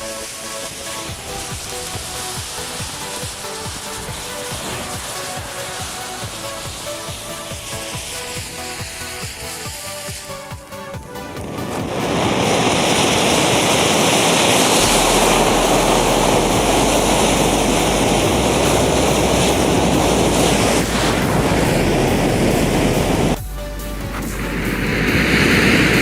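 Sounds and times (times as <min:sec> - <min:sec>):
burning matches flaring: 0:00.0 - 0:23.4.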